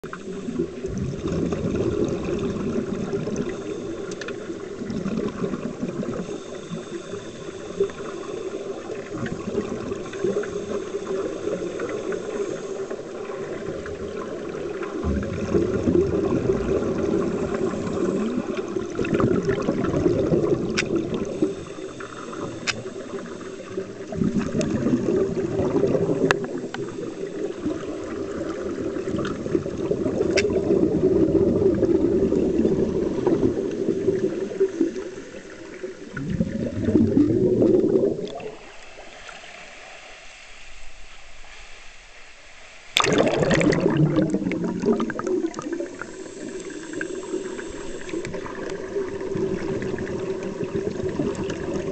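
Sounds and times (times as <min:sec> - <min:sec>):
underwater bubbles from breathing: 0:00.0 - 0:40.4, 0:43.0 - 0:51.9.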